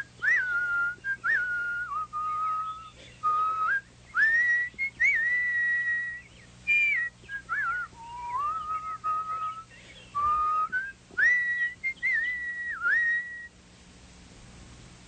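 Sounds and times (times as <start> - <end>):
person whistling birdsong: 0.0 - 13.6.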